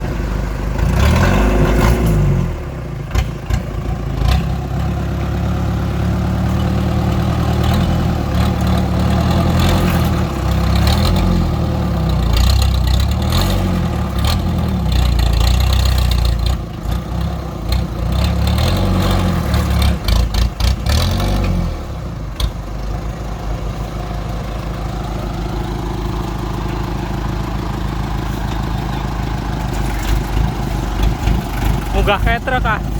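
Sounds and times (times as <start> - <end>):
diesel engine revving and idling: 0.0 - 32.9.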